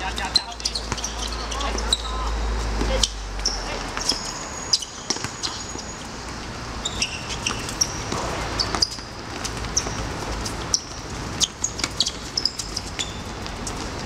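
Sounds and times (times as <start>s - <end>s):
shoes squeaking on court: 0.0s - 14.0s.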